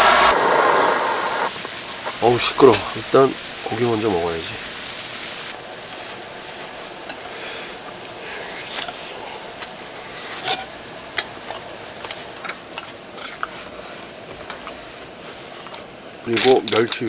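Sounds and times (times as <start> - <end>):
camp burner hissing: 0.0 - 17.0.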